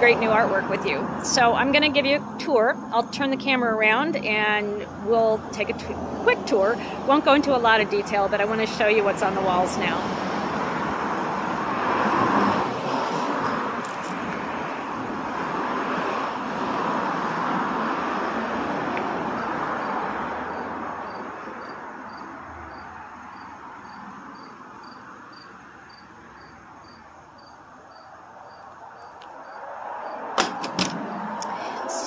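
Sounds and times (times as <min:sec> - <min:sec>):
vehicle passing: 0:00.0 - 0:32.0.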